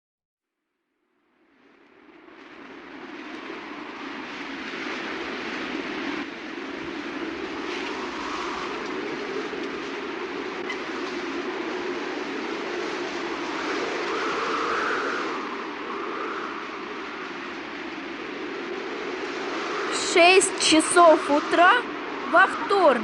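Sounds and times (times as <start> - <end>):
rushing noise: 2.0 - 23.0.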